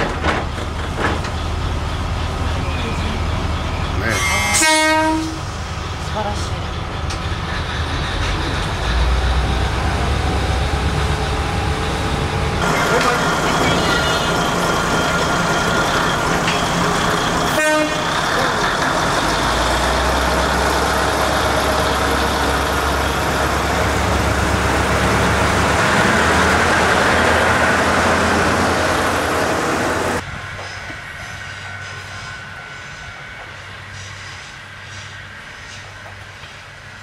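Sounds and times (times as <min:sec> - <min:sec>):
diesel railcar engine rumble: 0:00.0 - 0:37.0
distant train: 0:00.0 - 0:37.0.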